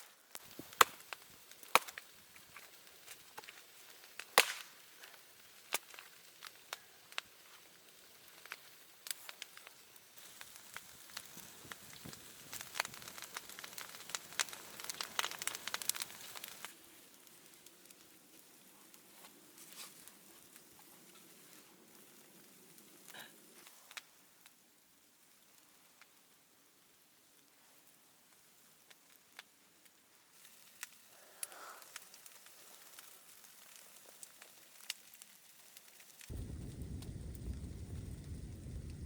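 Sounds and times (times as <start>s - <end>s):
dry wood snapping and crackling: 0.0s - 24.1s, 30.4s - 38.3s.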